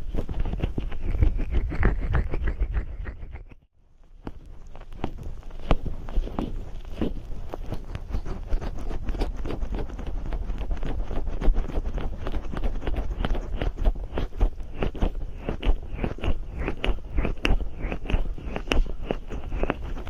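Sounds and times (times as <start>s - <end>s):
oily fingers rubbing microphone: 0.0s - 3.6s, 4.2s - 20.0s.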